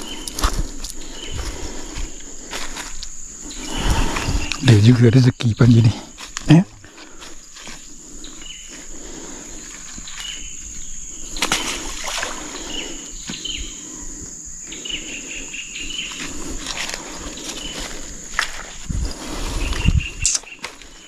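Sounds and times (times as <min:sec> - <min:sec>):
birds chirping: 0:00.0 - 0:21.0
high-pitched insect drone: 0:00.0 - 0:21.0.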